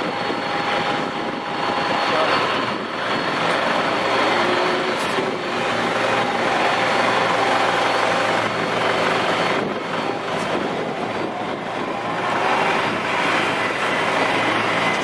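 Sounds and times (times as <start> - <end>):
jet engines running: 0.0 - 15.0
low hum: 0.0 - 15.0.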